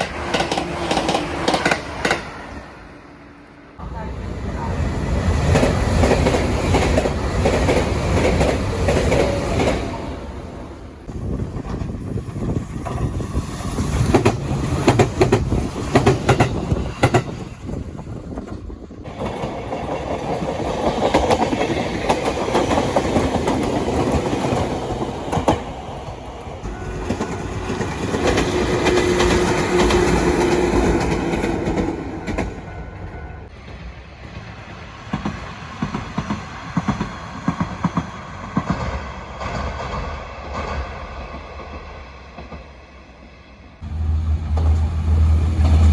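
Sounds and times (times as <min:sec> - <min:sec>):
train wheels clattering over rails: 0:00.0 - 0:02.4, 0:04.4 - 0:33.0, 0:33.6 - 0:42.9
heavy train rumble: 0:00.0 - 0:45.9.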